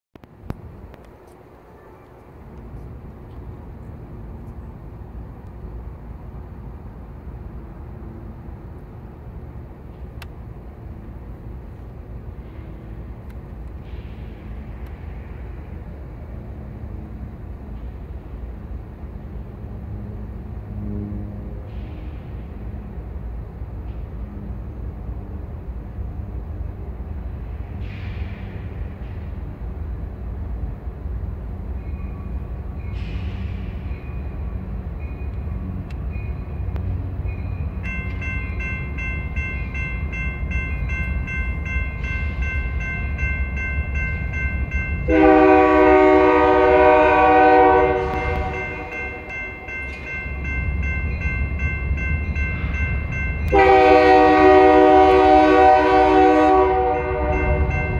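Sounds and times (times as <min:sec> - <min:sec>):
distant train rumbling: 0:00.2 - 0:57.9.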